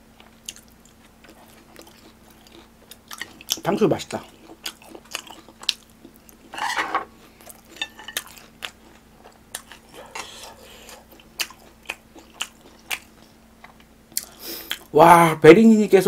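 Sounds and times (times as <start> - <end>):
chewing crisp fried pork: 0.0 - 15.0.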